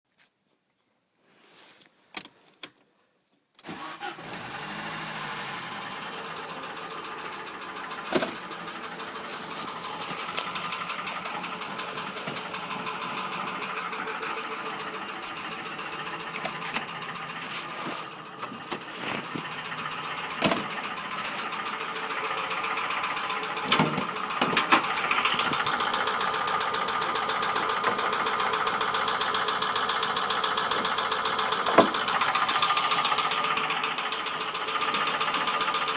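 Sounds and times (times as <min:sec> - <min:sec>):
car engine knocking: 0:04.4 - 0:35.9.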